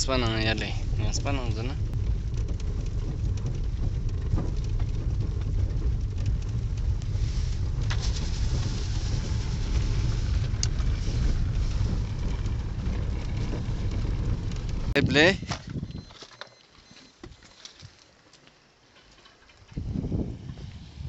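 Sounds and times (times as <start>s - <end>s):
car engine and tyres rumbling: 0.0s - 21.0s
gravel crackling under wheels: 0.0s - 21.0s.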